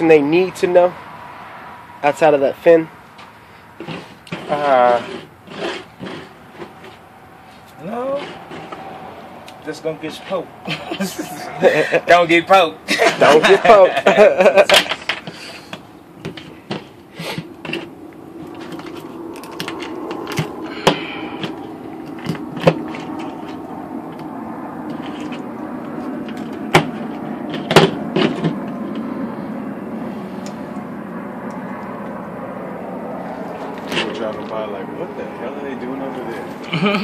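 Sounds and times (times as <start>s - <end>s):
steady low hum: 3.4s - 37.0s.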